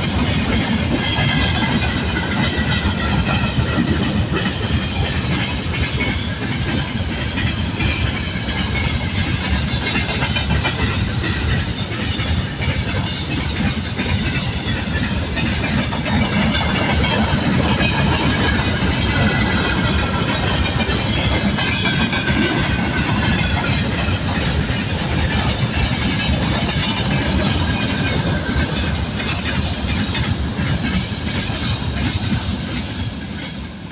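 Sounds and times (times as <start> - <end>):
freight train wheels rumbling: 0.0 - 33.9
wheels clicking over rail joints: 0.0 - 33.9.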